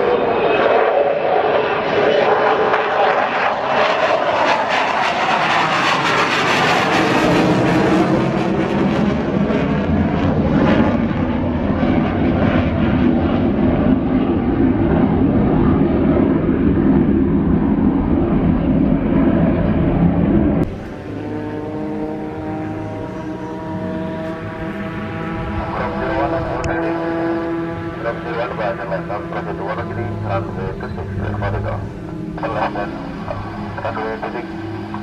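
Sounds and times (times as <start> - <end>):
military jet flying past: 0.0 - 35.0.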